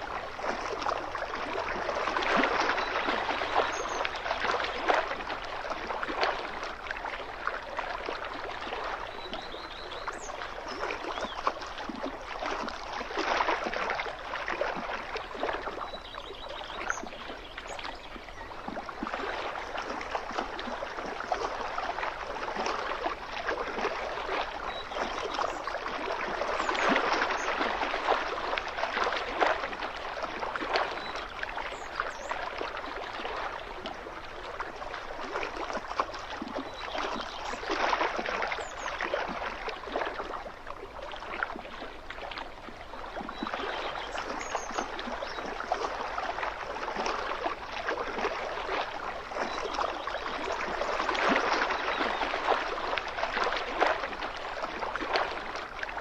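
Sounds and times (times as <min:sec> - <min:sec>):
water lapping against shoreline: 0:00.0 - 0:56.0.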